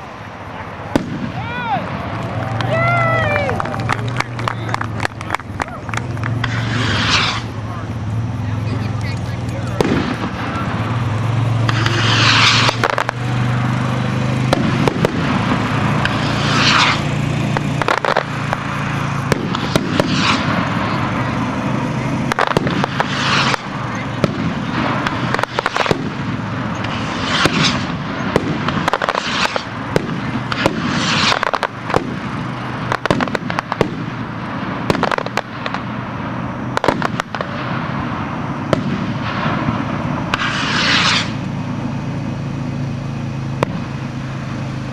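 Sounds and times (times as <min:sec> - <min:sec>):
rockets hissing upward: 0:00.0 - 0:42.2
rockets bursting with sharp bangs: 0:00.0 - 0:44.9
steady low hum: 0:00.0 - 0:44.9.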